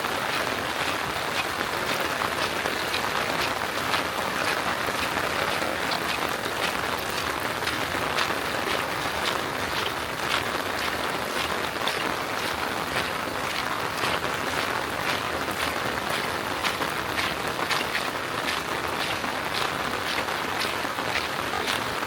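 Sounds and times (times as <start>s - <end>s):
steady rain with drop taps: 0.0s - 22.0s.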